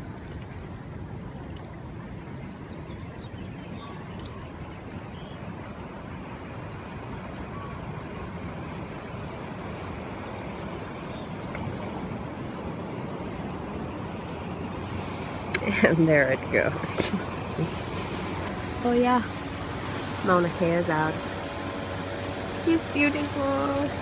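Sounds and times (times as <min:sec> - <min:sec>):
distant surf: 0:00.0 - 0:24.0
wind: 0:00.0 - 0:24.0.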